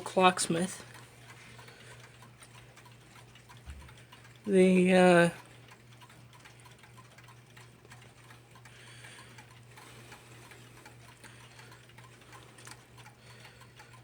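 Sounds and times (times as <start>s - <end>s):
clock ticking faintly: 0.0s - 14.0s
steady low hum: 0.0s - 14.0s.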